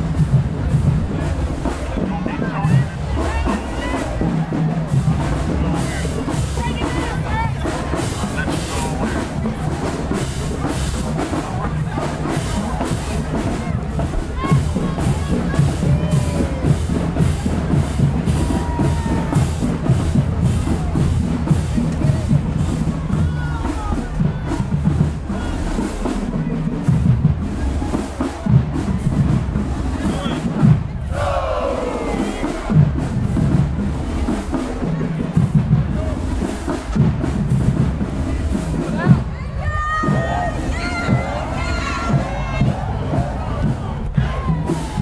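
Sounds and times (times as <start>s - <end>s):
drums beating: 0.0s - 45.0s
marching band playing: 0.0s - 45.0s.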